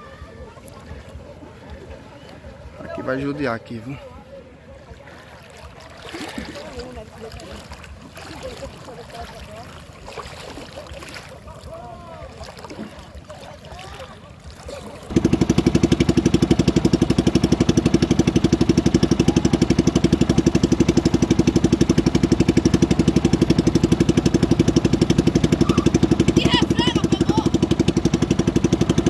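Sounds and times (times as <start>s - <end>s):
faint wind: 0.0s - 29.0s
small boat engine chugging: 0.0s - 29.0s
water noise: 0.0s - 29.0s.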